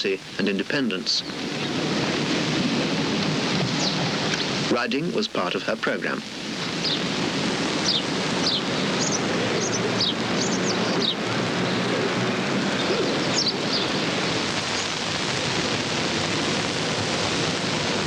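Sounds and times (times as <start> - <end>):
birds chirping: 0.0 - 18.0
steady hiss: 0.0 - 18.0.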